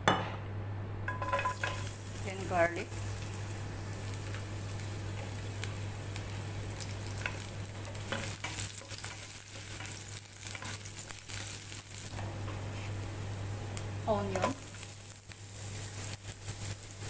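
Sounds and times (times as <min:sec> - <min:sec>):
garlic sizzling in oil: 0:01.1 - 0:17.0.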